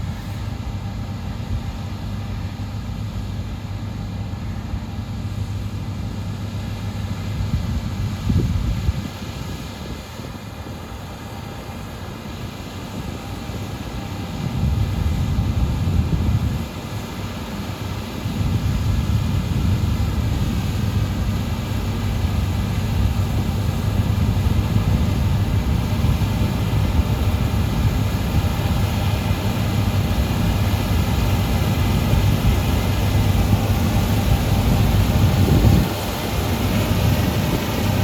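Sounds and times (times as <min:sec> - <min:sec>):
combine harvester engine drone: 0:00.0 - 0:38.0
faint steady whine: 0:00.0 - 0:38.0.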